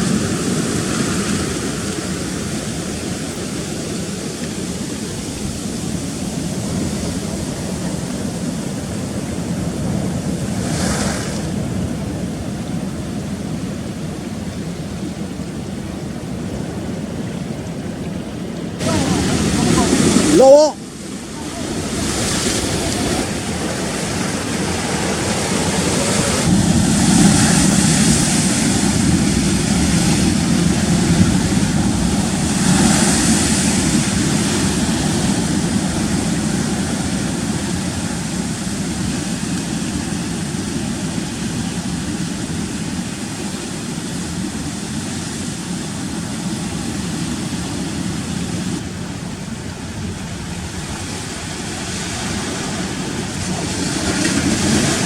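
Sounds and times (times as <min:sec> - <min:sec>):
rough sea washing over rocks: 0:00.0 - 0:55.0
wind buffeting microphone: 0:00.0 - 0:55.0.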